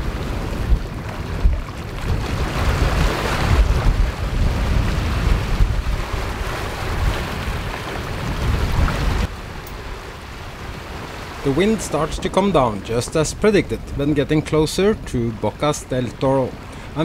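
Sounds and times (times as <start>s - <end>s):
waves and water rushing past hull: 0.0s - 17.0s
wind buffeting microphone: 0.0s - 17.0s.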